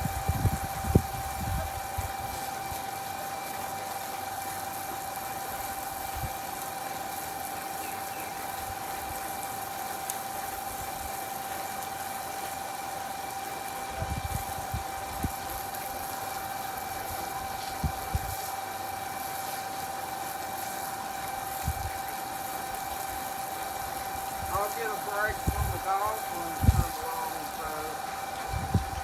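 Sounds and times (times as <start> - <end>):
mechanical hum with whine: 0.0 - 29.0.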